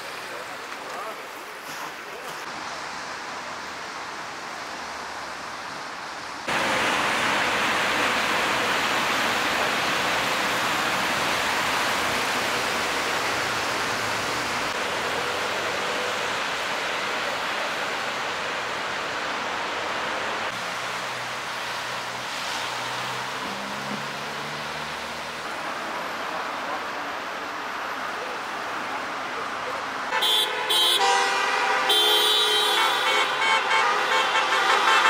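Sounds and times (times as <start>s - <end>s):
tyres hissing on wet road: 0.0s - 35.0s.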